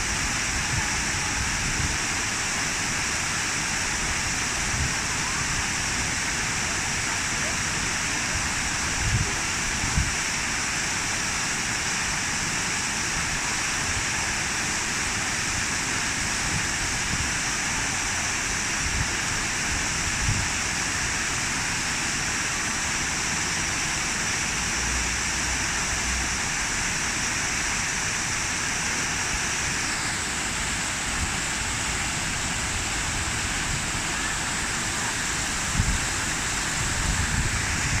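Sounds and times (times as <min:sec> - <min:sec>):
running water rushing: 0:00.0 - 0:38.0.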